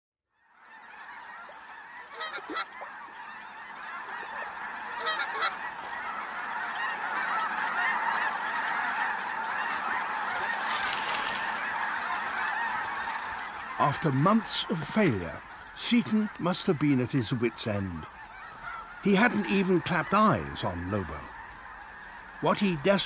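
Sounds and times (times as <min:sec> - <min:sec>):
flock of geese honking: 0:00.4 - 0:23.0.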